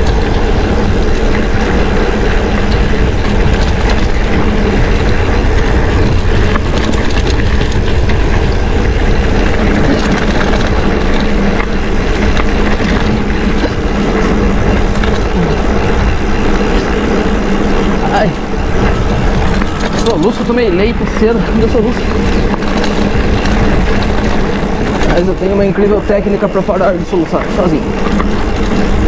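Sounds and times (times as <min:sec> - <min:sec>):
bike rattling over bumps: 0:00.0 - 0:29.0
bike tyres rumbling on gravel: 0:00.0 - 0:29.0.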